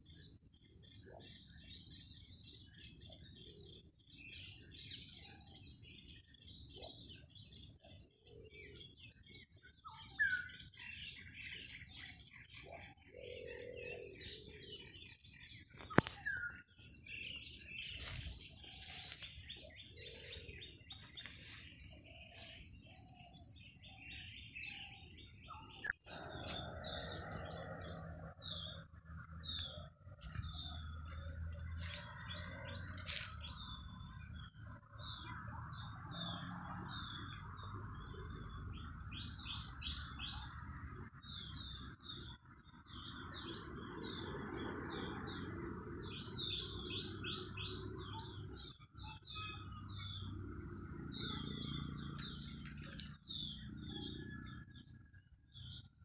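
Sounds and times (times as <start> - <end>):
faint outdoor background: 0.0 - 56.0
small birds chirping: 0.0 - 56.0.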